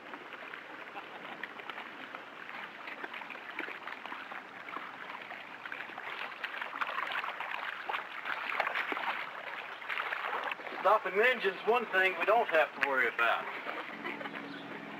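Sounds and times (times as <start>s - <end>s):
paddles splashing water: 0.0s - 14.9s.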